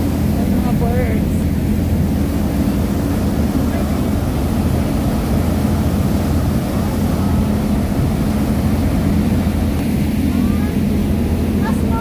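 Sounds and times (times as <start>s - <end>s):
boat engine droning: 0.0s - 12.0s
churning boat wake rushing: 0.0s - 12.0s.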